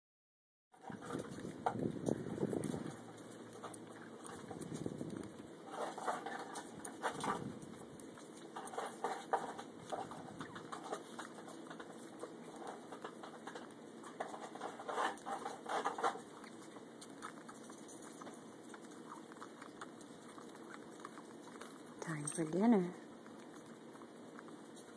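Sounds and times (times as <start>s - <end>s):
puppy sucking at a bottle: 0.8s - 24.9s.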